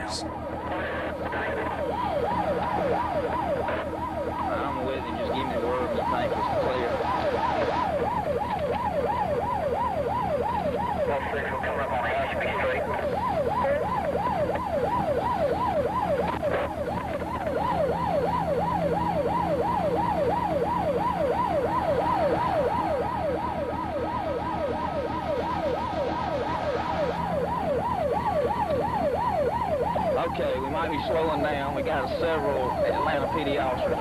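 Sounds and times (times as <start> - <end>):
low engine and road hum: 0.0 - 34.0
police siren yelping: 0.0 - 34.0.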